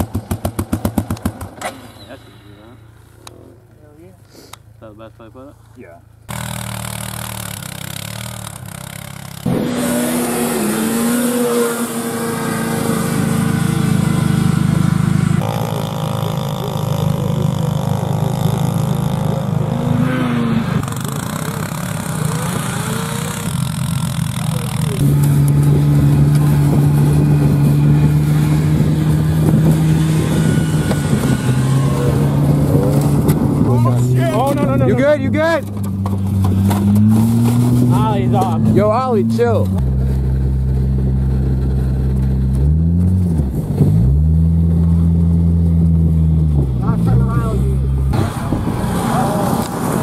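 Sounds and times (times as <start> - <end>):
atv engine revving: 0.0 - 3.6, 6.2 - 50.0.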